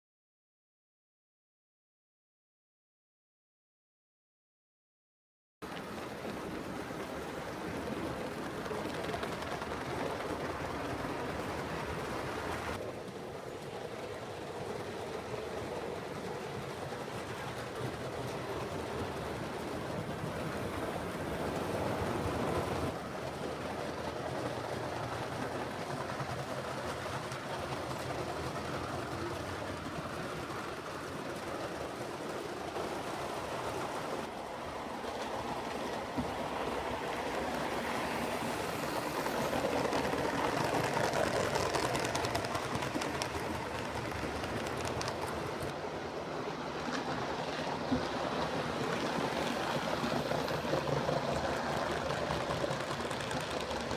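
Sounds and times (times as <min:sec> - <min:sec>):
model train wheels rumbling: 0:05.7 - 0:53.9.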